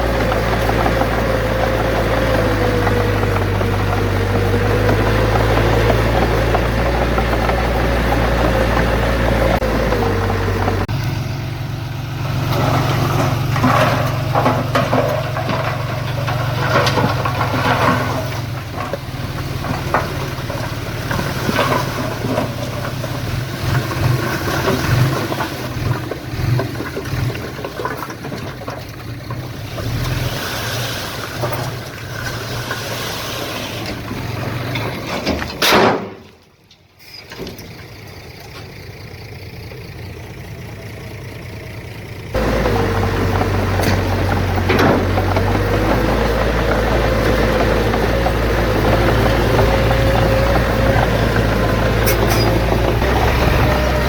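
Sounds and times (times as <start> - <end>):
clattering and scraping: 0.0 - 10.9, 12.4 - 38.8, 42.3 - 54.0
diesel engine with whine: 0.0 - 54.0.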